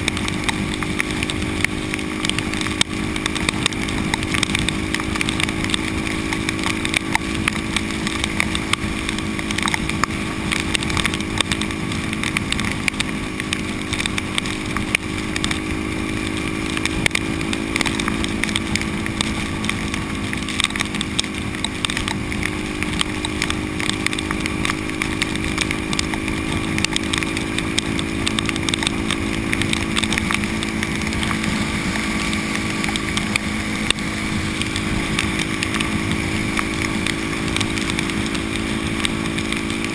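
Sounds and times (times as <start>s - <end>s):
motorcycle engine cruising: 0.0s - 39.9s
rain spattering on camera: 0.0s - 39.9s
wind rush: 0.0s - 39.9s.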